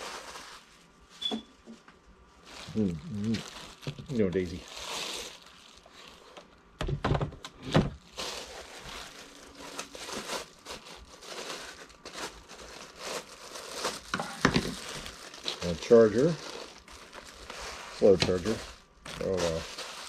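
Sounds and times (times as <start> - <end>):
packaging rustling and crinkling: 0.0 - 1.2, 2.4 - 6.6, 7.5 - 20.0.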